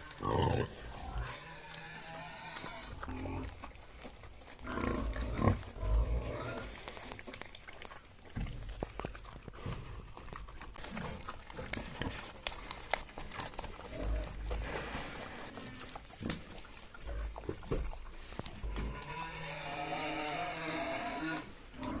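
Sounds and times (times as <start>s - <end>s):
pigs grunting: 0.0s - 22.0s.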